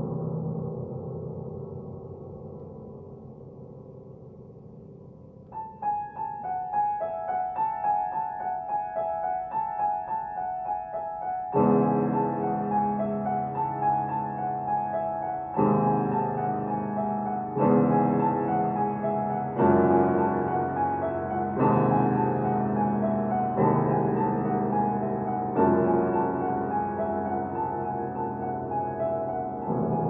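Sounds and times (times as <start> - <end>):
grand piano playing: 4.5 - 30.0.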